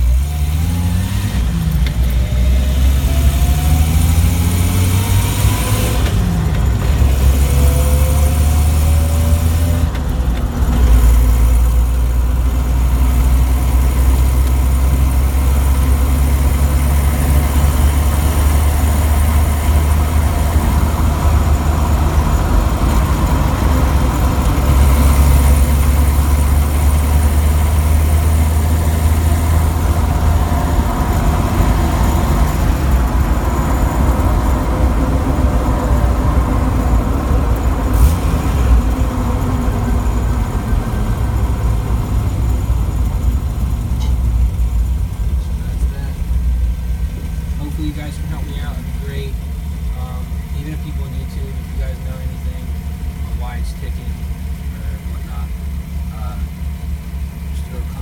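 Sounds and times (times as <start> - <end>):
car engine revving through gears: 0.0 - 58.0.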